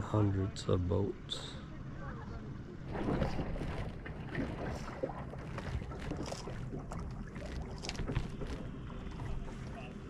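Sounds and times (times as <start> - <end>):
outboard motor running: 1.7 - 10.0.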